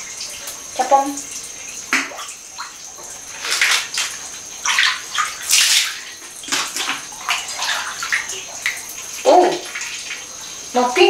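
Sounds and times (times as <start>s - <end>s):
bath water sloshing and splashing: 1.3s - 11.0s.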